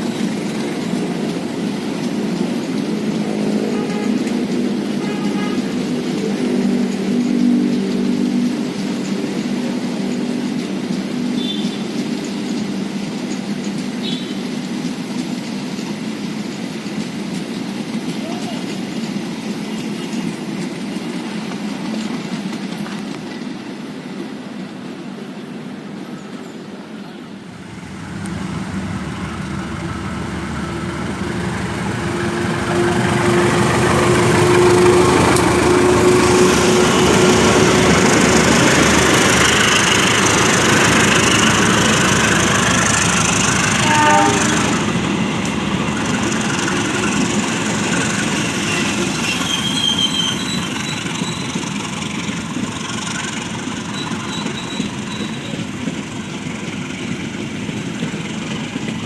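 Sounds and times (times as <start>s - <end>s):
train wheel squeal: 0.0s - 23.8s, 28.4s - 59.0s
train wheels clattering over track: 0.0s - 59.0s.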